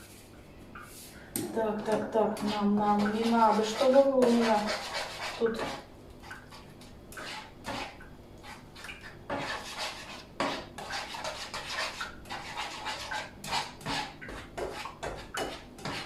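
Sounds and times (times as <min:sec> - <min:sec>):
utensil scraping frying pan: 0:01.8 - 0:05.9, 0:07.2 - 0:16.0.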